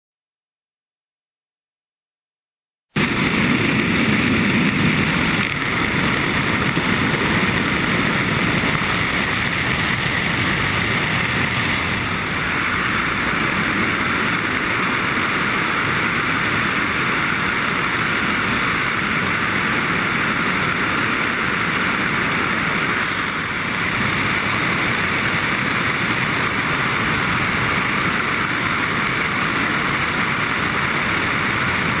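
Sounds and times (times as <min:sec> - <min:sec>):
aircraft engine noise: 0:02.9 - 0:32.0
rush of air: 0:03.0 - 0:32.0.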